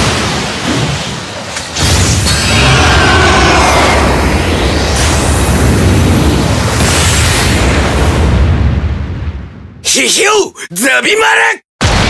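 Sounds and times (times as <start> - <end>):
loud booming rush: 0.0 - 9.8.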